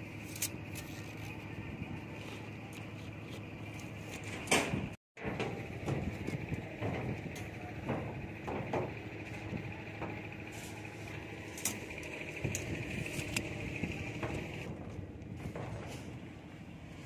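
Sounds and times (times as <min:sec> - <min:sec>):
high mechanical whine: 0:00.0 - 0:17.0
steady mechanical drone: 0:00.0 - 0:17.0.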